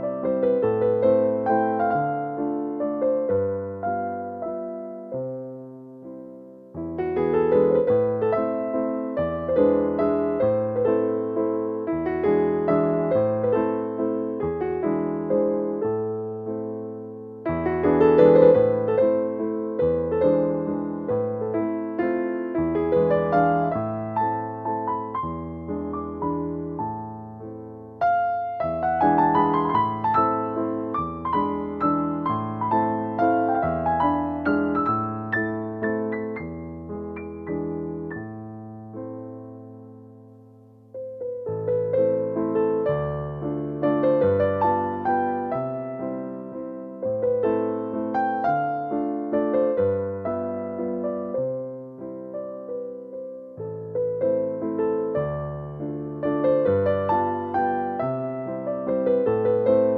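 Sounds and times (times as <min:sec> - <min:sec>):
soft piano music: 0:00.0 - 0:59.9.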